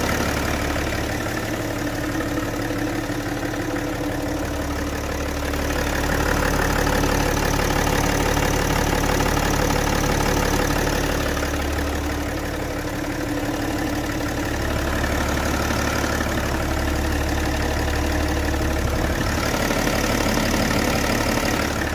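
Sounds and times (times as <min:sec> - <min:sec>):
diesel engine idling: 0:00.0 - 0:21.9
engine knocking clatter: 0:00.0 - 0:21.9.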